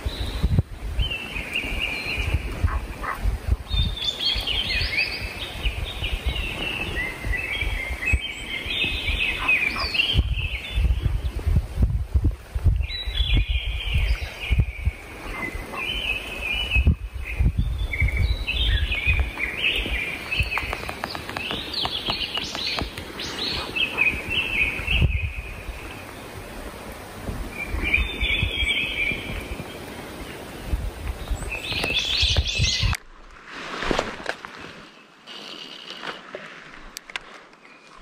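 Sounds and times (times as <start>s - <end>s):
songbirds chirping: 0.0s - 11.5s, 12.8s - 33.1s, 34.6s - 38.0s.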